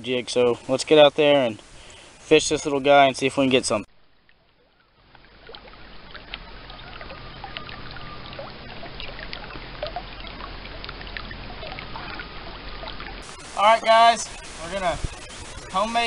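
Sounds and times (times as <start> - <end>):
creek water trickling over rocks: 0.0 - 16.0.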